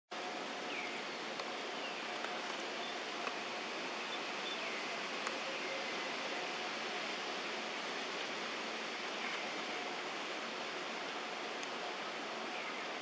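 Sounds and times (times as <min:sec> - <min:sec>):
forest ambience hiss: 0:00.1 - 0:13.0.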